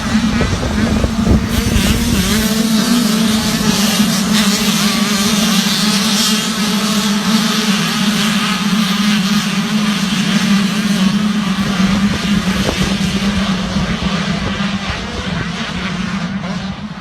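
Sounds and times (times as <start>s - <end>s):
motocross bike engines revving high: 0.0s - 17.0s.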